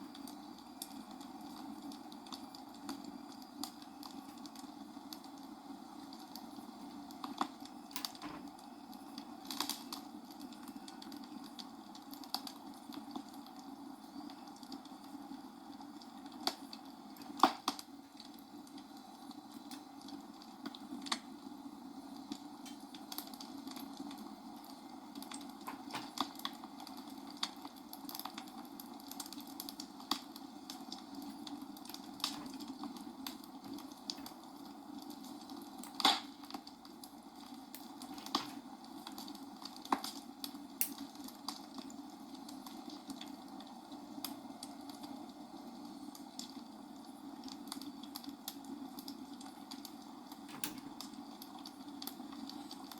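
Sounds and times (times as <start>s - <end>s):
steady low hiss: 0.0s - 52.9s.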